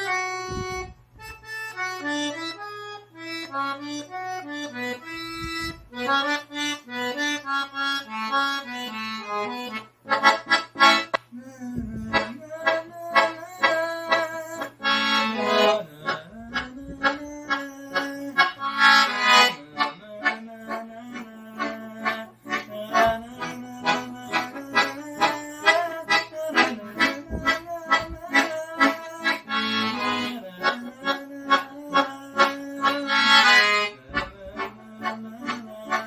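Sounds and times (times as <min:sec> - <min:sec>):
solo accordion playing: 0:00.0 - 0:11.2, 0:11.8 - 0:36.0.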